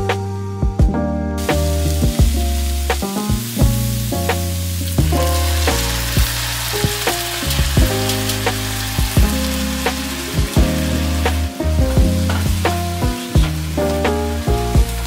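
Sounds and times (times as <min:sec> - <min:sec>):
background music chords: 0:00.0 - 0:15.0
food sizzling in a frying pan: 0:01.4 - 0:15.0.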